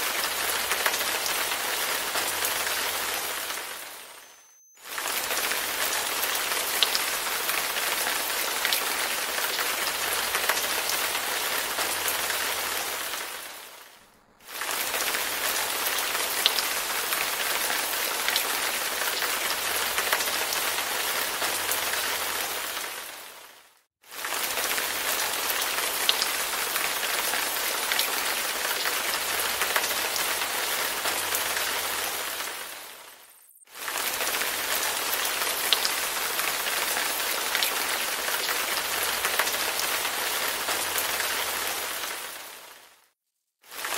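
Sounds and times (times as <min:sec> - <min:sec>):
rain patter: 0:00.0 - 0:43.9.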